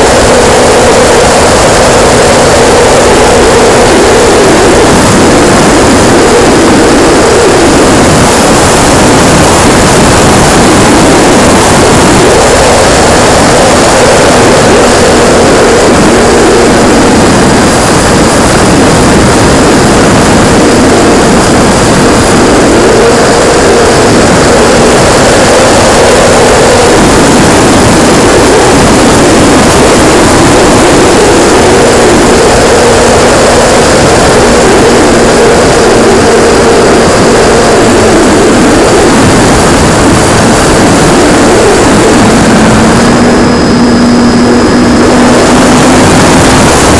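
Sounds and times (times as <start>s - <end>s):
model airplane motor and propeller: 0.0s - 46.9s
wind noise on microphone: 0.0s - 46.9s.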